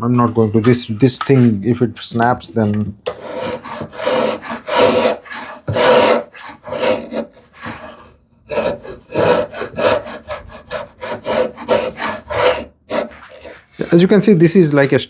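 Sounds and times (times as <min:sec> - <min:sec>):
hand tool scraping wood: 0:00.0 - 0:14.3.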